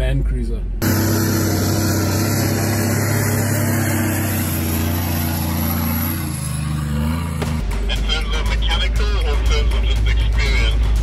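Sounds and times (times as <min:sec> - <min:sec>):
engine running at low revs: 0:00.6 - 0:11.0.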